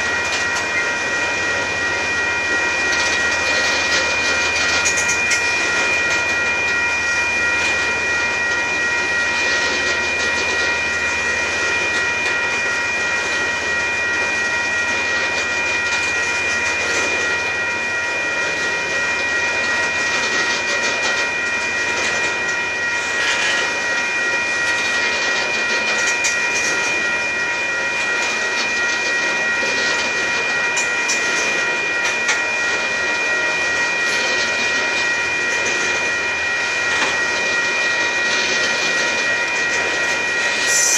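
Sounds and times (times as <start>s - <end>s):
high-pitched whine: 0.0s - 40.9s.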